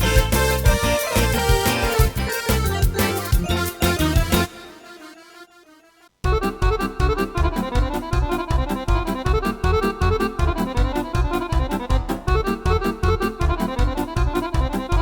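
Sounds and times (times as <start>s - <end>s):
keyboard drums and bass accompaniment: 0.0s - 4.8s, 6.2s - 15.0s.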